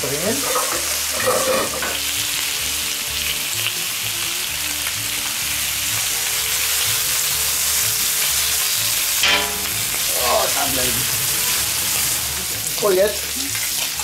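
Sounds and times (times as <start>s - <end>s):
bacon sizzling on a griddle: 0.0s - 14.0s
soft background music: 0.0s - 14.0s.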